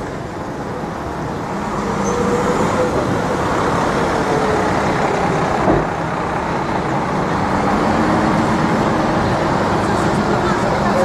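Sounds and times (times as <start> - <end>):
passing vehicles: 0.0 - 11.0.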